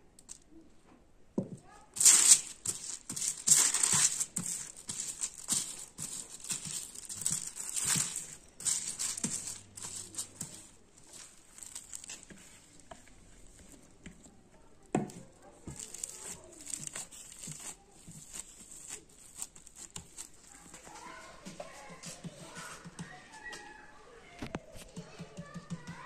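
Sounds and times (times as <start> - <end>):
plastic sheet crinkling and rustling: 1.7 - 22.9.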